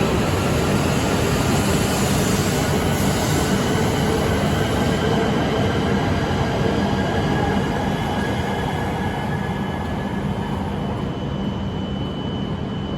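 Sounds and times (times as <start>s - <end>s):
train rolling rumble and whine: 0.0s - 12.9s.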